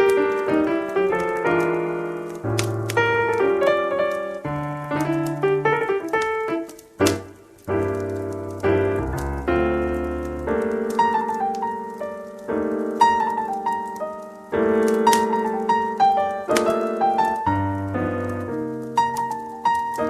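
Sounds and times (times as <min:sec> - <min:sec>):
jazz piano music: 0:00.0 - 0:20.0.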